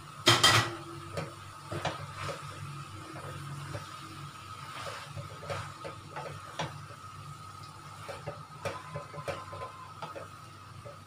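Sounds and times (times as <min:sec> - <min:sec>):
wooden spatula scraping a wok: 0:01.2 - 0:07.1, 0:07.8 - 0:11.0.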